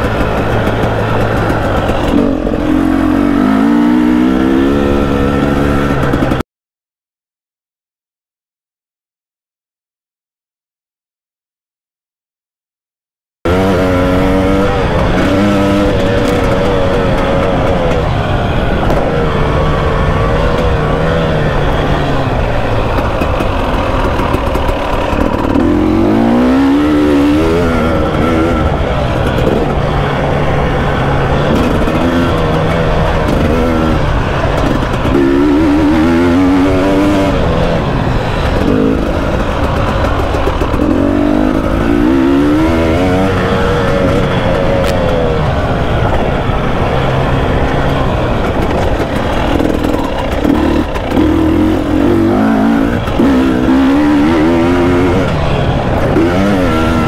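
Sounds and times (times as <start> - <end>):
dirt bike engine revving: 0.0 - 6.4, 13.5 - 57.0.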